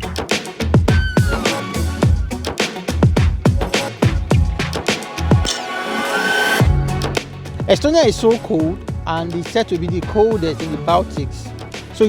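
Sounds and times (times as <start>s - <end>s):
electronic music drum beat: 0.0s - 11.5s.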